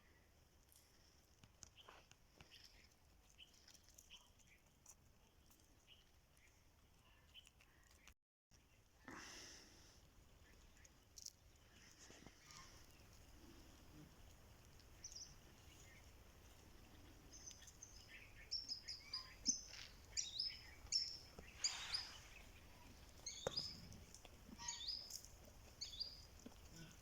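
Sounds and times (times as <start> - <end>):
faint steady background noise: 0.0 - 27.0
small birds chirping: 0.8 - 8.9, 10.2 - 27.0.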